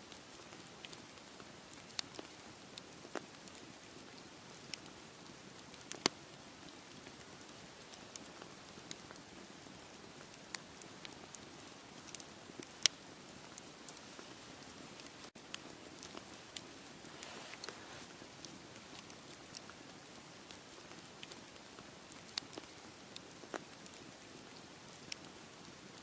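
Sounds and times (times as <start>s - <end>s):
campfire crackling: 0.1s - 26.0s.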